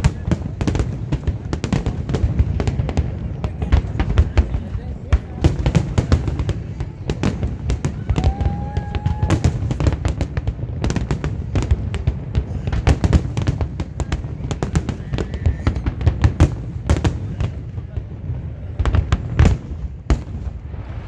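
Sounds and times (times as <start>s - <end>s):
fireworks bursting with crackling: 0.0s - 21.0s.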